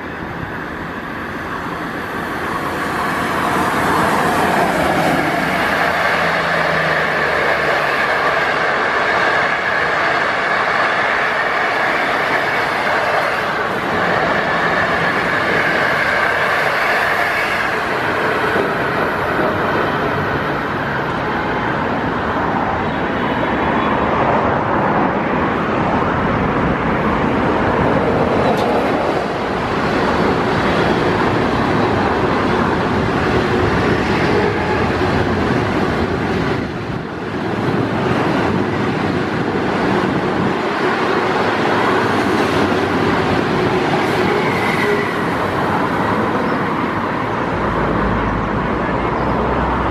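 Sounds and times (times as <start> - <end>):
train wheels rushing on rails: 0.0 - 49.9.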